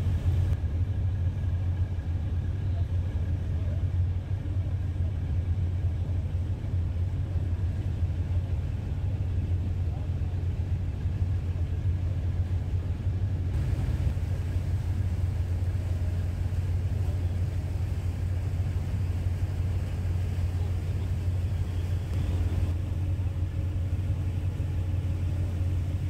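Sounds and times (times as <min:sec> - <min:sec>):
boat engine drone: 0:00.0 - 0:26.0.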